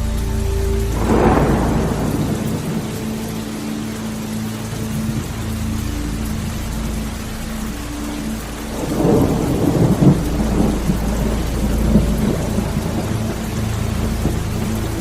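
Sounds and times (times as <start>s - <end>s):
thunder rumbling: 0.0s - 7.7s, 8.4s - 15.0s
car driving on wet road: 0.0s - 15.0s
rain: 0.0s - 15.0s.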